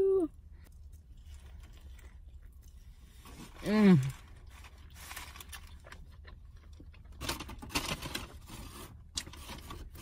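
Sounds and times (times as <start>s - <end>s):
chewing crispy food: 0.4s - 10.0s.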